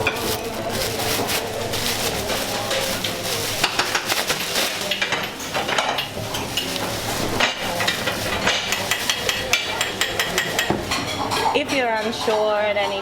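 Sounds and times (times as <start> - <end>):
dishes and pots clattering: 2.5 - 13.0.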